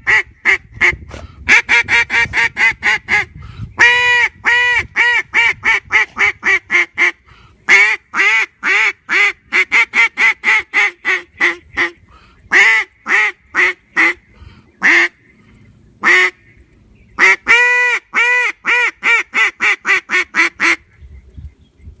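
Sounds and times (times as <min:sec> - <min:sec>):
duck call quacking: 0:00.0 - 0:15.2, 0:16.0 - 0:16.5, 0:17.2 - 0:20.8.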